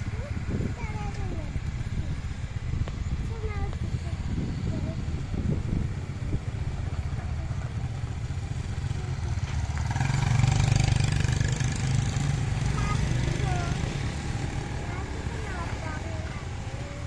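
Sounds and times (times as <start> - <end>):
heavy machinery diesel engine running: 0.0 - 17.0.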